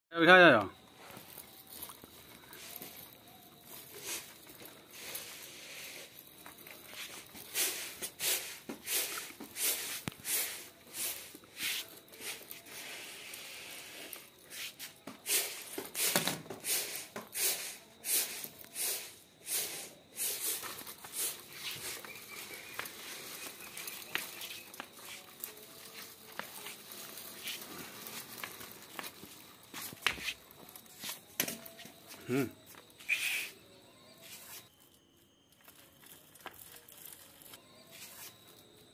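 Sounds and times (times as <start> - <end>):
plastic wheels rolling on concrete: 0.2 - 38.9.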